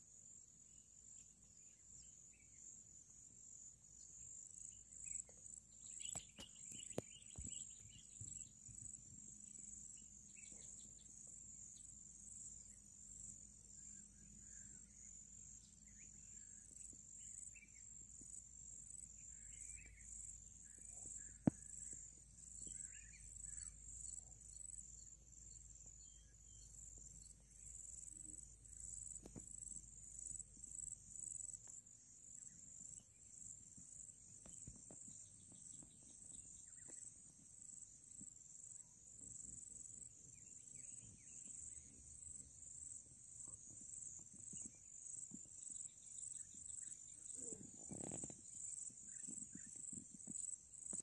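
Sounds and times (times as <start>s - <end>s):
insects chirping: 0.0s - 51.0s
faint bird chirps: 0.7s - 51.0s.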